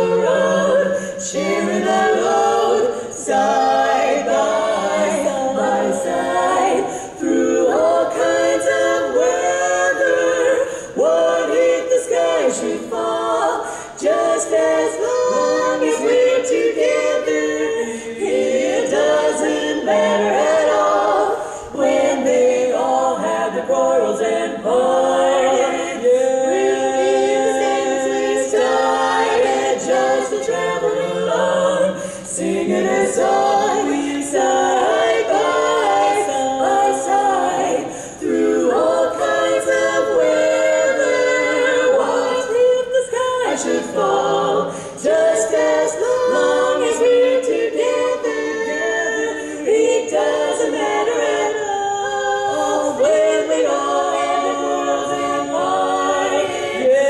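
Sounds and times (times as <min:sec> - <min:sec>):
women singing a cappella harmony: 0:00.0 - 0:57.0.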